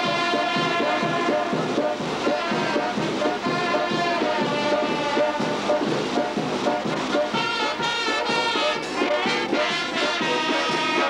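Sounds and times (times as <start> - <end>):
brass band music: 0.0 - 11.0.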